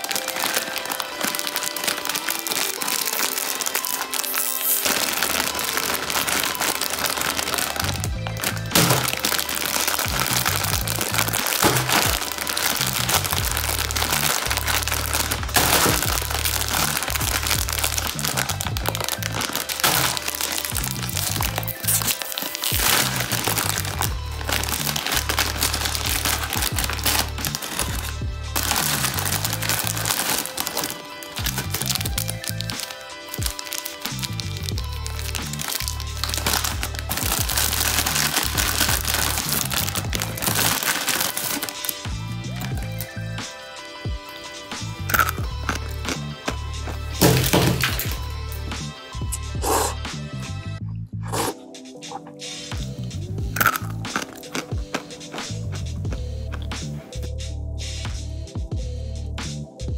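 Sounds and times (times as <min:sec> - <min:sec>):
plastic packets crinkling: 0:00.0 - 0:48.6, 0:53.5 - 0:57.0
background music with bass: 0:00.0 - 0:59.9.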